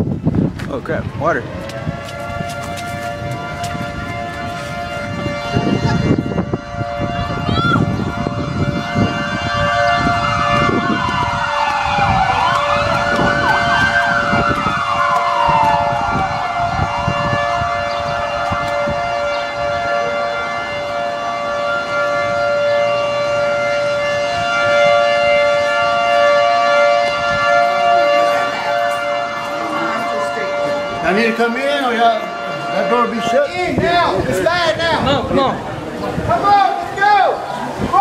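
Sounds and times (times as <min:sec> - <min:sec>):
wind buffeting microphone: 0:00.0 - 0:38.0
siren wailing up and down: 0:01.0 - 0:35.6
two-tone siren: 0:01.1 - 0:36.1.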